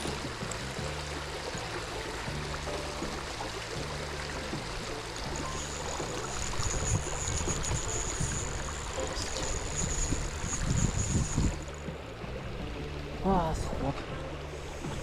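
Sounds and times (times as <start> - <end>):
thin steady high whine: 0.0 - 12.1
quiet background music: 0.0 - 15.0
running stream water: 0.0 - 15.0.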